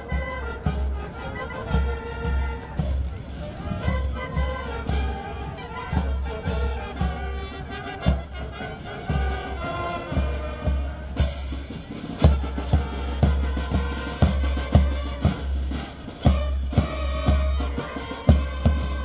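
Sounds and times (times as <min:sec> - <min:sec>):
brass band playing a march: 0:00.0 - 0:19.0.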